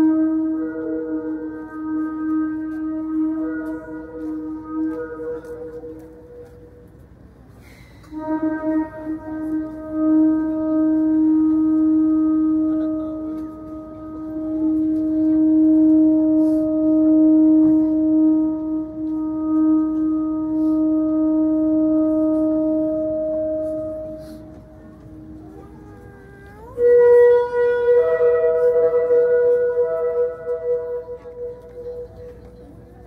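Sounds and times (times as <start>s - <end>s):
long steady horn-like note: 0.0s - 33.0s.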